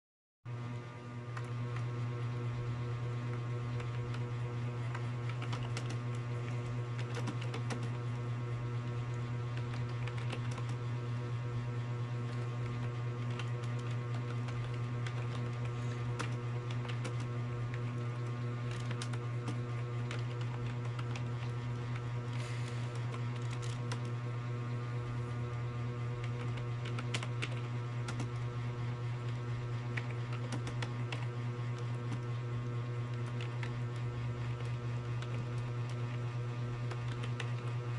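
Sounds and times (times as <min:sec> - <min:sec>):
loud steady low hum: 0:00.5 - 0:37.9.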